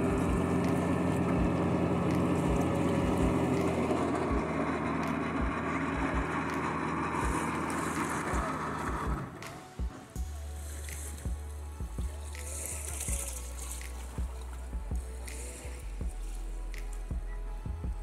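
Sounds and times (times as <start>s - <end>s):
tractor engine under heavy load: 0.0s - 18.0s.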